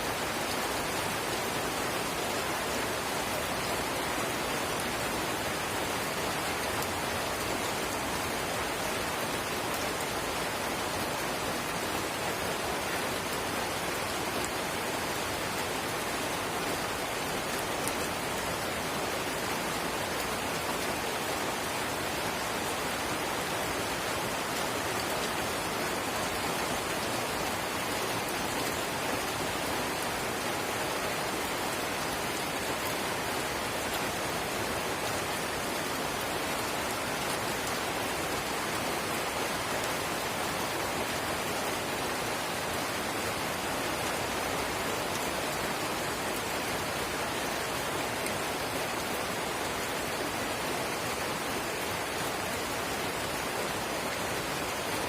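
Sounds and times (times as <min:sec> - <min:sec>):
light rain hiss: 0:00.0 - 0:55.0
patter of raindrops: 0:00.0 - 0:55.0.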